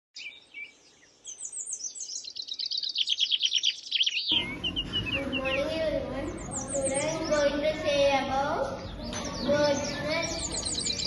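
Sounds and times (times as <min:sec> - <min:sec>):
small birds trilling: 0:00.2 - 0:11.0.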